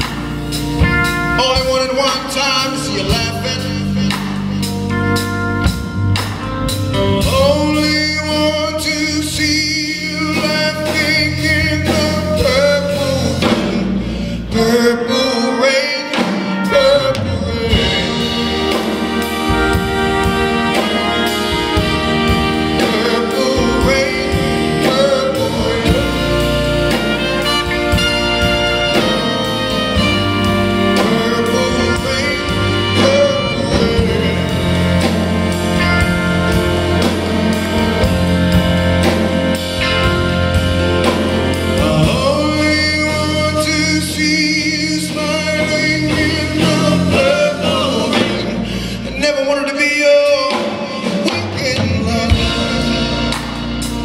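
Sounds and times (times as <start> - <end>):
man singing: 0.0 - 5.8, 6.7 - 39.2, 41.0 - 53.6
live band music: 0.0 - 54.0.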